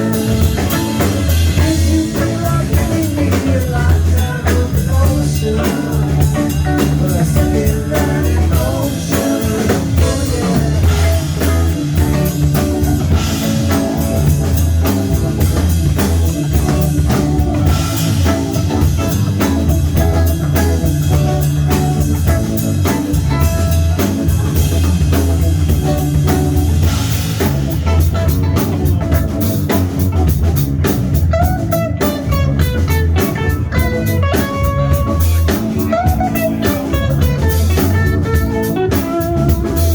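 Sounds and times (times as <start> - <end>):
bass line: 0.0 - 39.9
drum kit: 0.0 - 39.9
guitar: 0.0 - 39.9.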